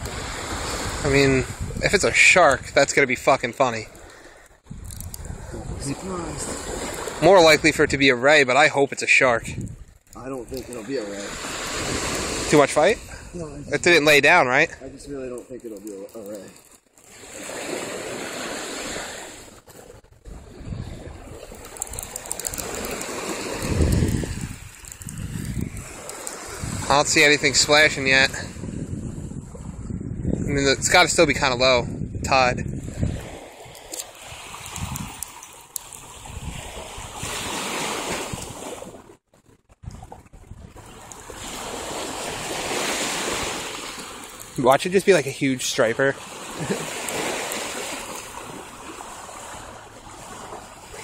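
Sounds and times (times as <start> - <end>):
wind buffeting microphone: 0.0 - 8.2, 9.2 - 15.6, 17.3 - 39.1, 39.7 - 44.8
small waves washing on shore: 0.0 - 51.0.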